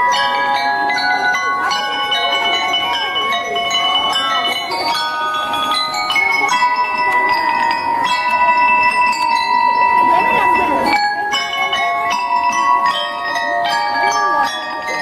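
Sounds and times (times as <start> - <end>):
bell lyres ringing: 0.0 - 15.0.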